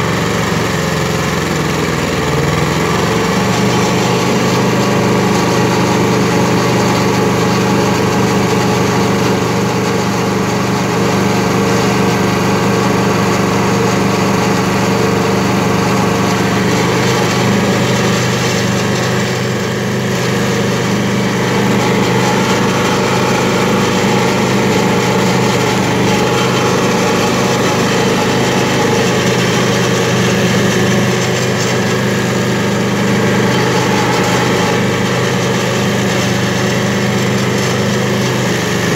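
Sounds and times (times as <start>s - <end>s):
stump grinder engine drone: 0.0s - 38.9s.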